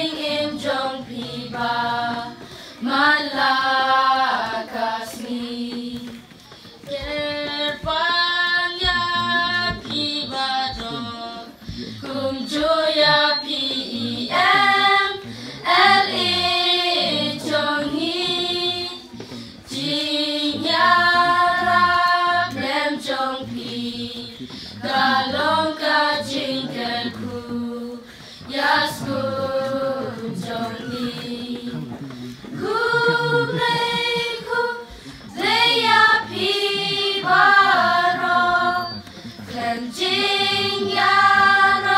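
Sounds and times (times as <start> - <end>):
children's choir singing: 0.0 - 41.9.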